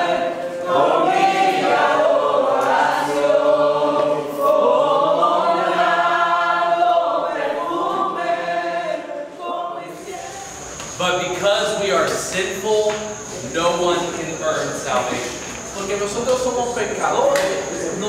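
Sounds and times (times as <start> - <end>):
congregation singing: 0.0 - 18.0.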